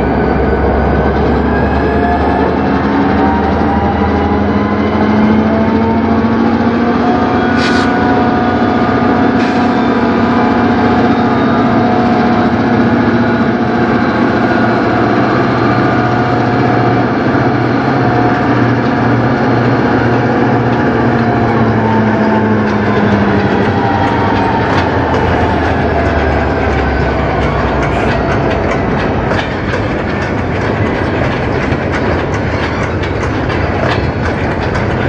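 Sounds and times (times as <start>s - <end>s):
freight locomotives passing: 0.0s - 35.0s
high whining tones: 0.0s - 35.0s.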